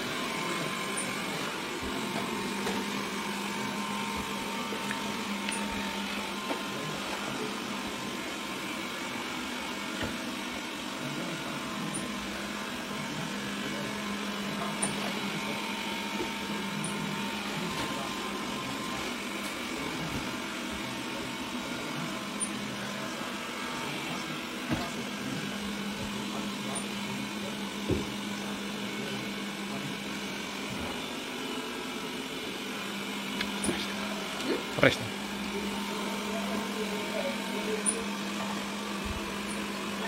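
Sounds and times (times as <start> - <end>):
robot vacuum humming: 0.0 - 40.0.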